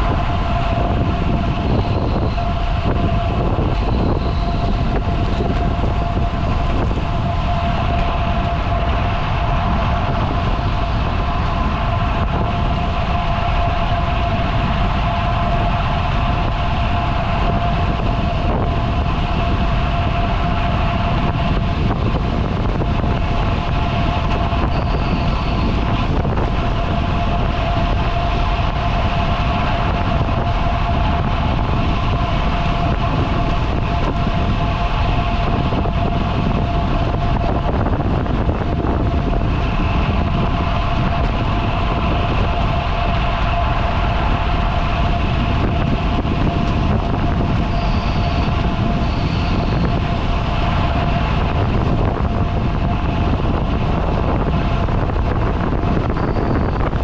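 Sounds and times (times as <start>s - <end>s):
bike road noise: 0.0s - 57.0s
constant whine: 0.0s - 57.0s
wind rush on microphone: 0.0s - 57.0s.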